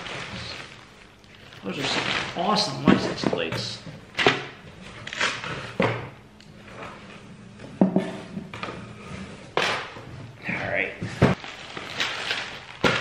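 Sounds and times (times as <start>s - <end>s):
plastic bags and cardboard rustling: 0.0s - 13.0s.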